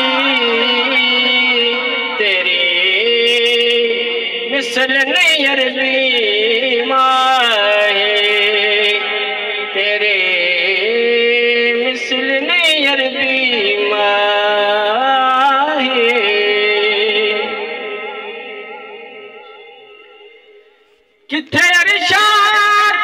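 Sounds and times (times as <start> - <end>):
man singing: 0.0 - 19.8, 21.3 - 23.0.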